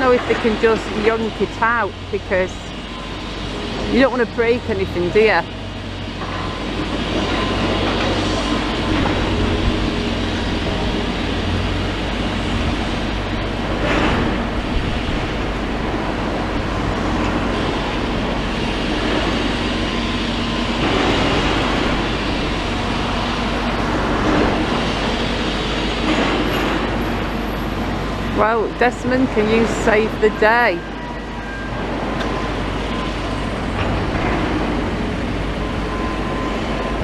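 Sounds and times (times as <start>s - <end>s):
diesel machinery engine hum: 0.0s - 37.0s.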